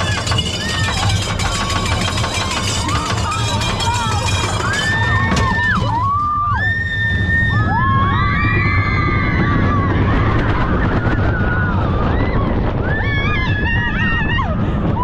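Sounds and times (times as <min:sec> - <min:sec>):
roller coaster rumbling on track: 0:00.0 - 0:15.0
wind: 0:00.0 - 0:15.0.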